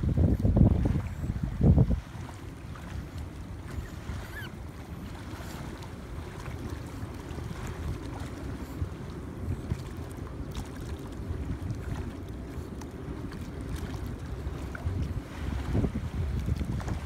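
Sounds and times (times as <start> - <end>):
faint water splashes: 0.0 - 17.0
shallow river water rushing: 0.0 - 17.0
wind buffeting microphone: 0.0 - 17.0.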